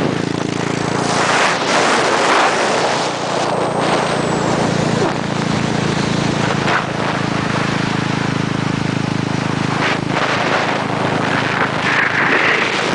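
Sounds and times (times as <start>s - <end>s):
wind noise rushing: 0.0s - 7.6s, 9.7s - 12.9s
motorcycle engine cruising: 0.0s - 12.9s.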